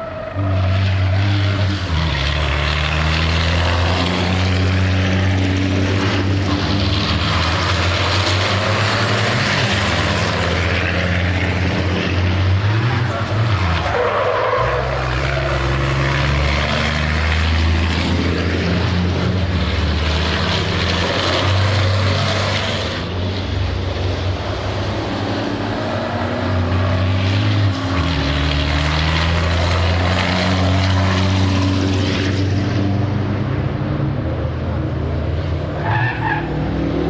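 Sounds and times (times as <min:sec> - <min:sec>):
diesel truck engines droning: 0:00.0 - 0:37.0.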